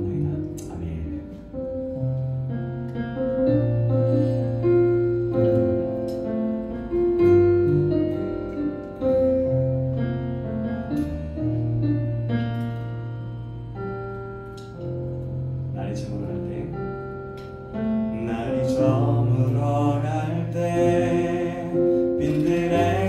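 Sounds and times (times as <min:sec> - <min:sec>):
deep bass line: 0:00.0 - 0:23.0
keyboard chords: 0:00.0 - 0:23.0.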